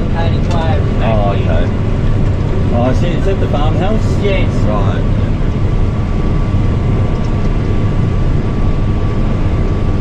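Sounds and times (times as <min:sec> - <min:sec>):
combine harvester drone: 0:00.0 - 0:10.0.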